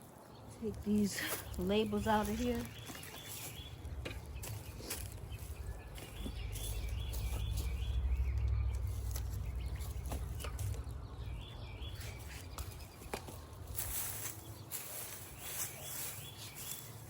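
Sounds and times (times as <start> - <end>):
bird chirping: 0.0 - 17.0
hands rustling in garden soil: 0.0 - 17.0.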